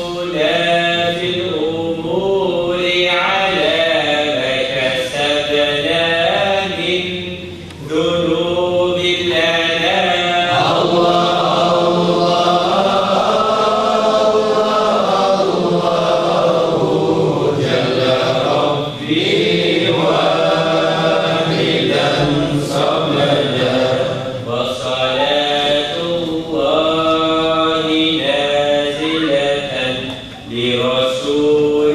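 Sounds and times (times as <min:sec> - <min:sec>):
men chanting in unison: 0:00.0 - 0:31.9.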